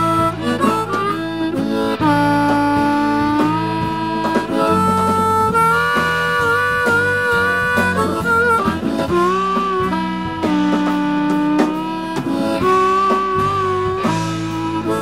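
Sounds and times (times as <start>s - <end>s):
bass guitar: 0.0s - 15.0s
blues harmonica solo: 0.0s - 15.0s
guitar: 0.0s - 15.0s.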